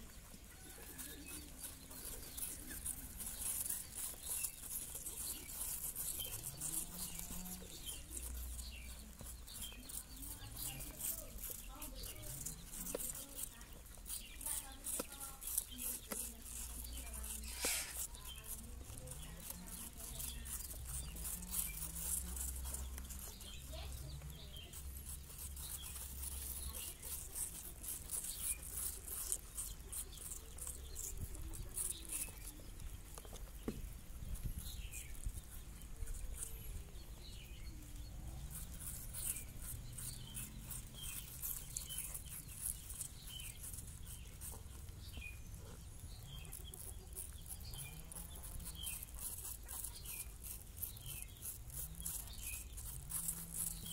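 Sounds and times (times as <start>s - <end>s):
rabbits chewing apple: 0.0s - 53.9s.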